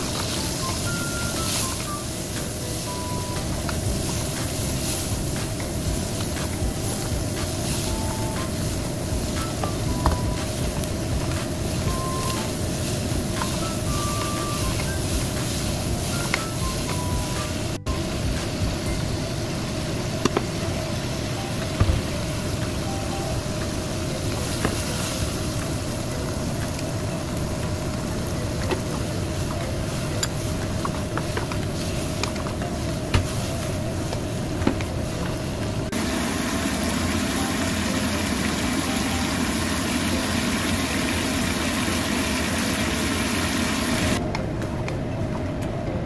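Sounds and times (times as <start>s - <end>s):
food sizzling in a wok: 0.0s - 44.2s
steady hum: 0.0s - 46.0s.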